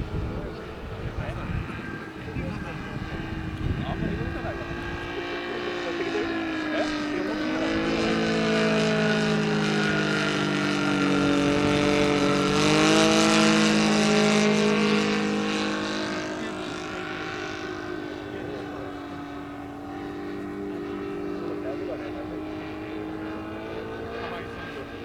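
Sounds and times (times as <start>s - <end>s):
model plane engine running: 0.0s - 25.0s.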